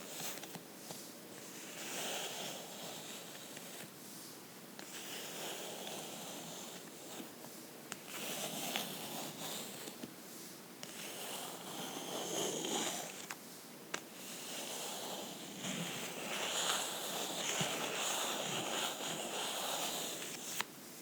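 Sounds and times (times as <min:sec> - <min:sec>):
scratching and rustling on book: 0:00.0 - 0:20.7.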